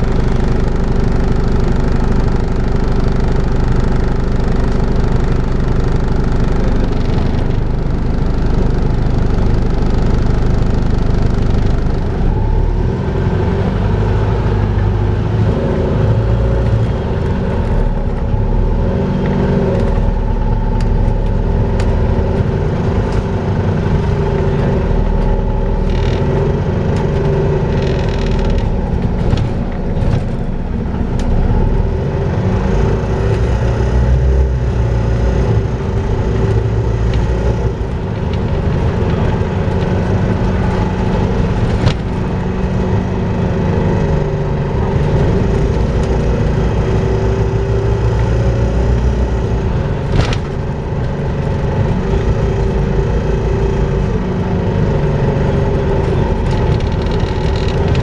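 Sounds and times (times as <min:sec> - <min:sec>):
bus engine whine and rumble: 0:00.0 - 0:58.0.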